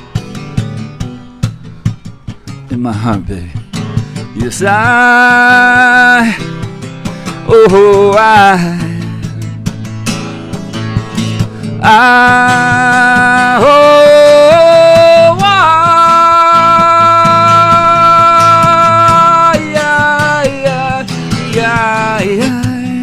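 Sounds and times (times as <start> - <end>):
acoustic guitar strumming: 0.0 - 23.0
person singing wordless melody: 2.5 - 9.4, 11.2 - 23.0.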